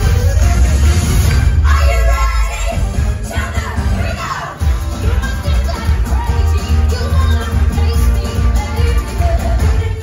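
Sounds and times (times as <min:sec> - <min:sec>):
band with drums and guitars: 0:00.0 - 0:10.0.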